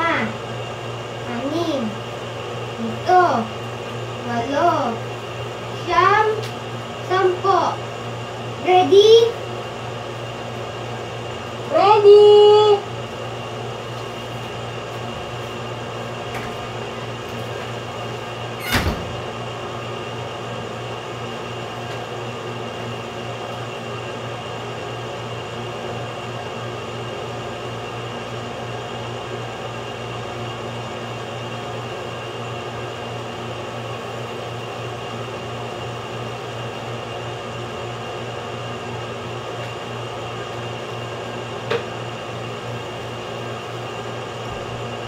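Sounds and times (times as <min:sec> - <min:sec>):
steady mechanical hum: 0:00.0 - 0:45.0.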